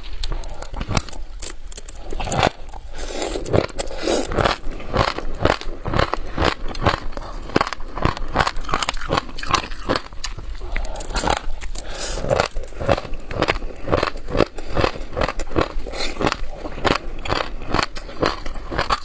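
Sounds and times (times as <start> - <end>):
chewing seeds crunching: 0.0 - 19.0.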